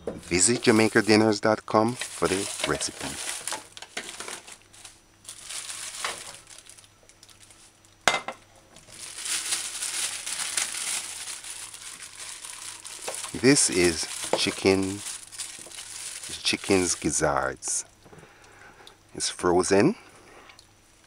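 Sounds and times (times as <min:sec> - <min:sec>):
plastic bag crinkling: 0:00.0 - 0:08.1, 0:08.8 - 0:17.8.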